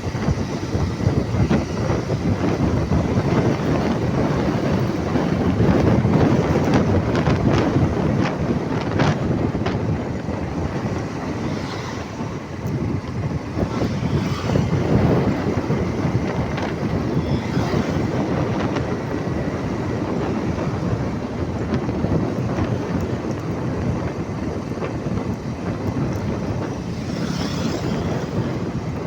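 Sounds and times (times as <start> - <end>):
vehicle rumble: 0.0 - 29.0
wind buffeting microphone: 0.0 - 29.0.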